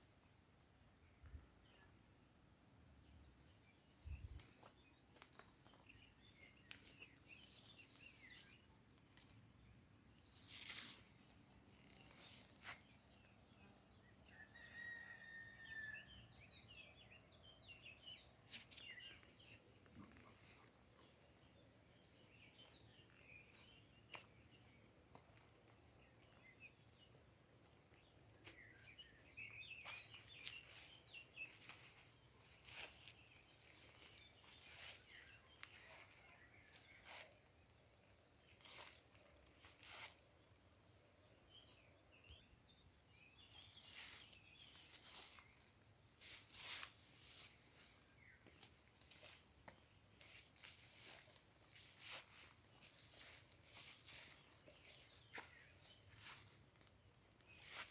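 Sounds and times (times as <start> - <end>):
faint birdsong chirps: 0.0 - 57.9.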